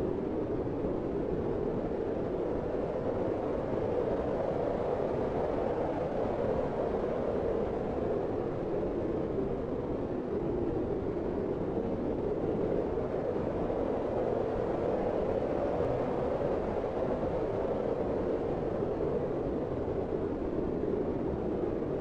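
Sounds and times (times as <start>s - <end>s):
steady rush of wind: 0.0s - 22.0s.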